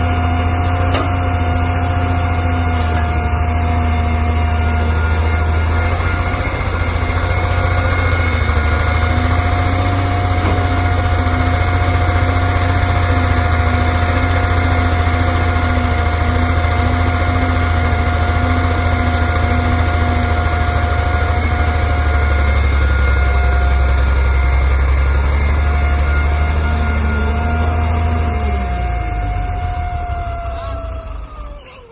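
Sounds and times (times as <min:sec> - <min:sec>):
diesel engine rumbling: 0:00.0 - 0:31.9
thin steady whine: 0:00.0 - 0:31.9.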